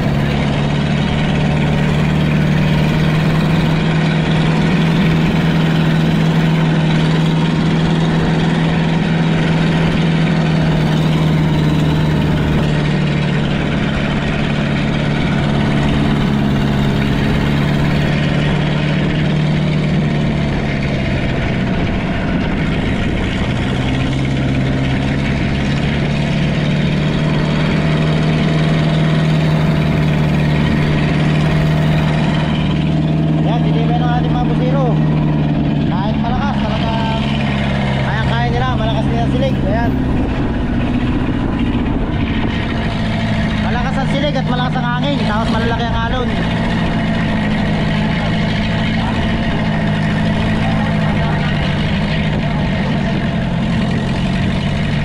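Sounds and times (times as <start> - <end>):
boat diesel engine humming: 0.0 - 55.0.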